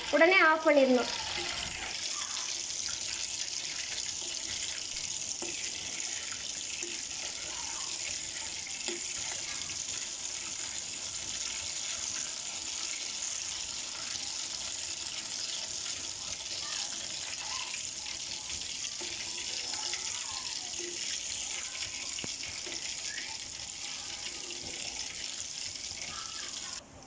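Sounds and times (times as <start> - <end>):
butter sizzling in a pan: 0.0 - 26.8.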